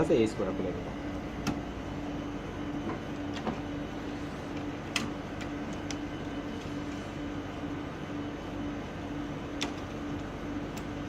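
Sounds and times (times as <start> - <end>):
pulsing machine hum: 0.0 - 11.0.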